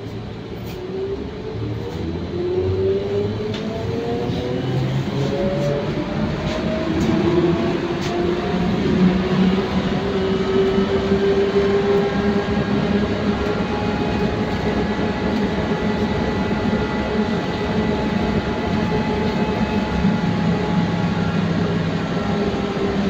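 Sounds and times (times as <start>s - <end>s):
trolleybus electric hum: 0.0s - 23.0s.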